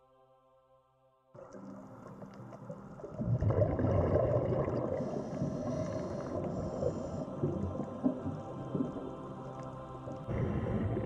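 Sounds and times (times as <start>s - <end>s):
muffled underwater rushing and bubbling: 1.4s - 11.0s.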